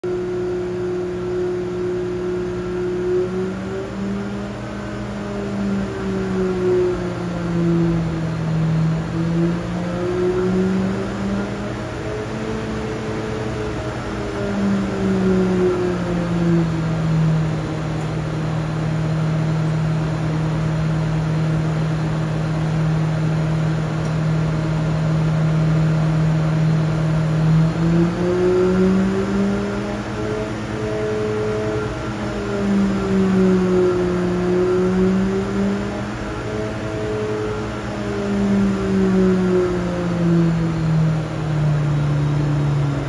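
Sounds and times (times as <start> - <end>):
motorcycle engine running on dyno: 0.0 - 43.0.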